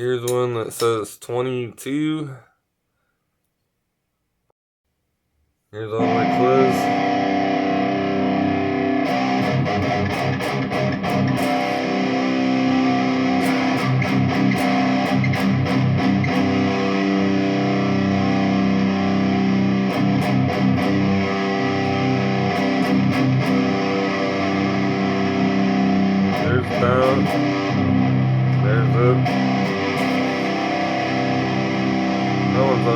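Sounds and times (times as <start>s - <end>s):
electric guitar chords: 5.9s - 32.9s.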